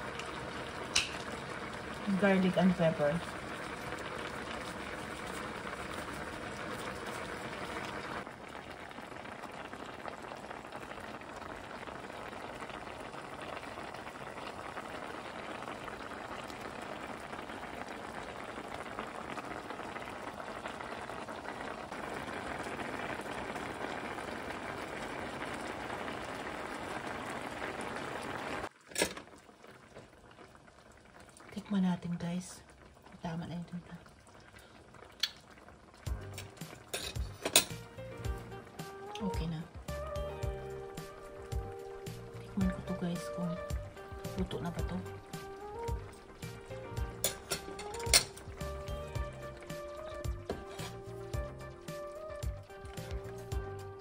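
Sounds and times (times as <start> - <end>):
stew bubbling in a frying pan: 0.0 - 54.0.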